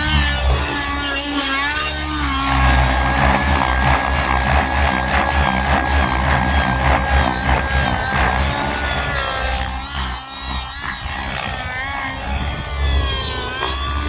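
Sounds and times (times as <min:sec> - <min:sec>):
model helicopter engine high revs: 0:00.0 - 0:14.0.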